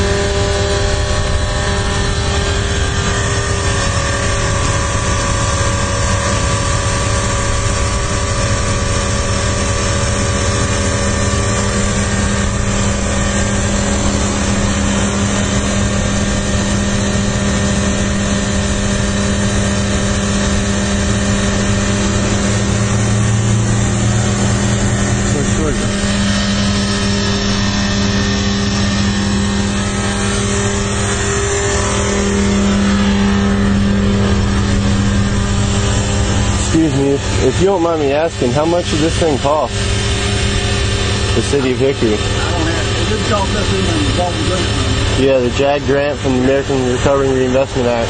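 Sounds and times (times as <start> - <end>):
engine droning steadily: 0.0 - 48.0.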